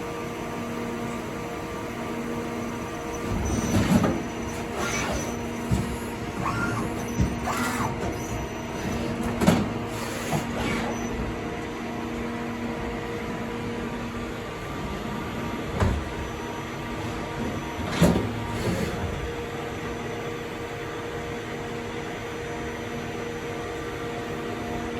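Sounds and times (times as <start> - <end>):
workshop machinery humming: 0.0 - 24.9.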